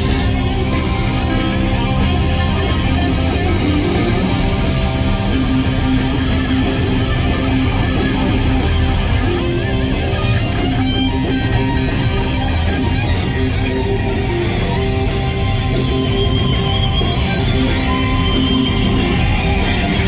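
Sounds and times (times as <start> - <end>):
bass guitar: 0.0 - 20.0
electric guitar: 0.0 - 20.0
hard rock band playing: 0.0 - 20.0.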